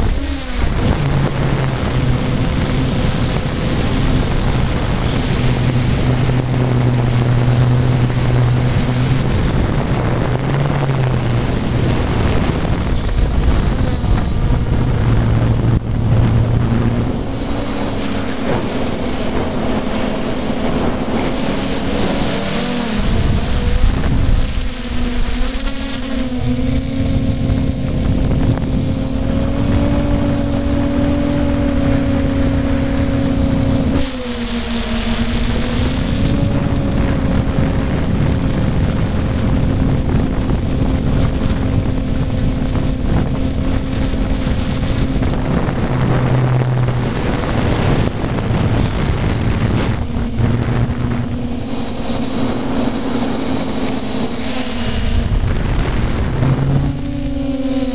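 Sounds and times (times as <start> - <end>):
drone motors humming: 0.0 - 57.9
rushing noise: 0.0 - 57.9.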